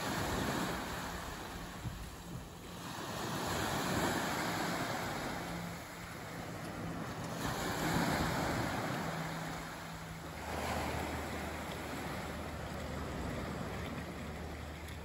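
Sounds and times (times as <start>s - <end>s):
gentle waves washing up a beach: 0.0s - 15.0s.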